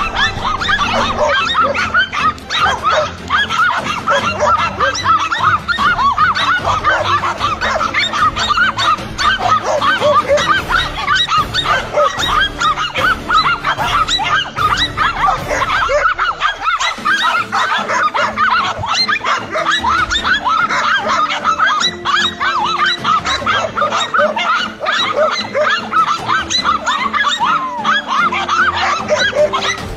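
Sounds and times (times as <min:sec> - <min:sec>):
dogs barking and yapping: 0:00.0 - 0:29.9.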